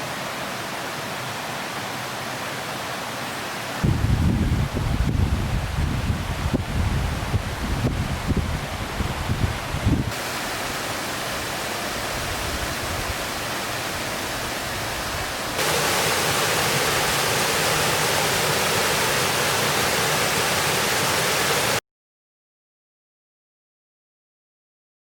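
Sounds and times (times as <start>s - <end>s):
waterfall rushing water: 0.0s - 21.8s.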